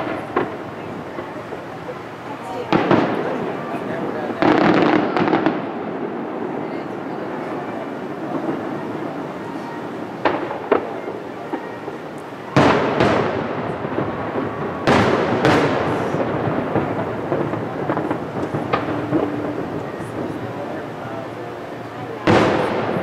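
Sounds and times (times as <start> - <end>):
firework booms with rolling rumble: 0.0 - 23.0
firework cracks: 0.0 - 23.0.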